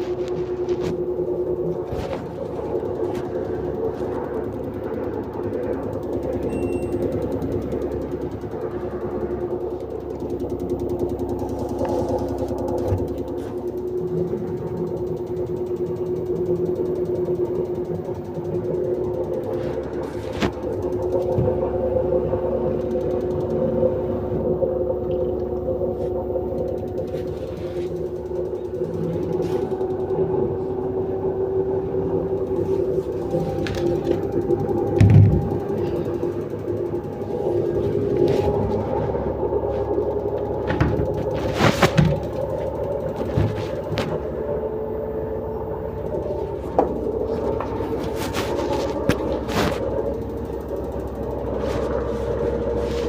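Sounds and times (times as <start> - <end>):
engine idling with knocking: 0.0 - 53.0
machine humming and rattling: 0.0 - 53.0.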